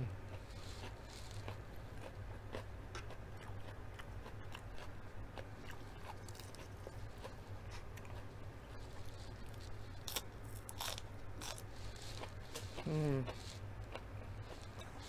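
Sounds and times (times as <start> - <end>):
low steady hum: 0.0 - 15.0
person chewing food: 0.2 - 15.0.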